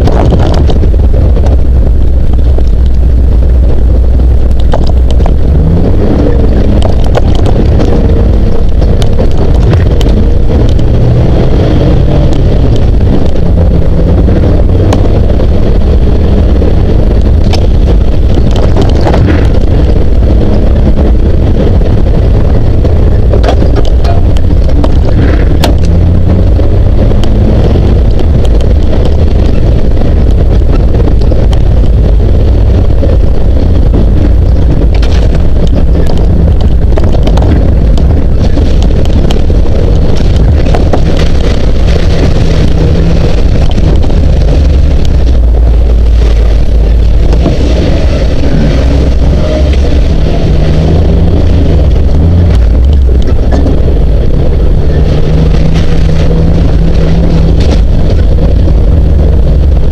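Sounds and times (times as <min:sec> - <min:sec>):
car engine running: 0:00.0 - 0:59.9
wind rumble on microphone: 0:00.0 - 0:59.9.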